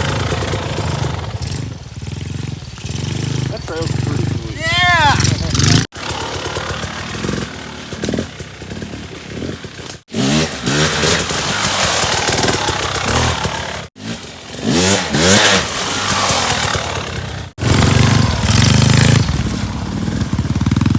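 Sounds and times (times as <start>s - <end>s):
dirt bike engine revving: 0.0s - 20.9s.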